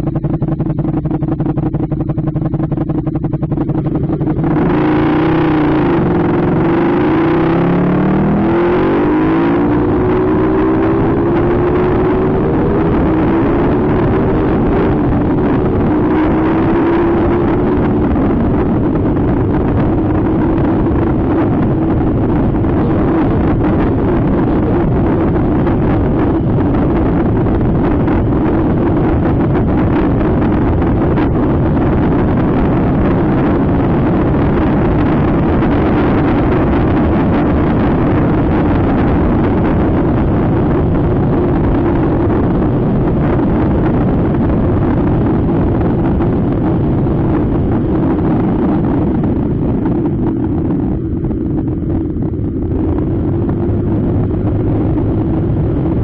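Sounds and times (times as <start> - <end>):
scooter engine drone: 0.0 - 56.0
wind rumbling on microphone: 0.0 - 56.0.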